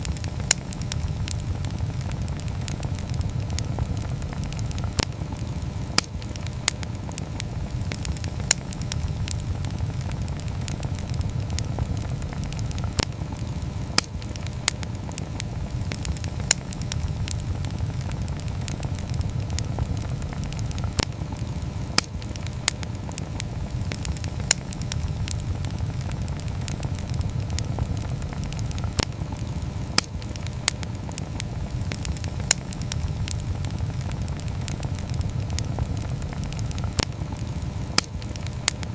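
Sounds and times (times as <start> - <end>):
campfire crackling and popping: 0.0 - 38.9
steady low rumble: 0.0 - 38.9.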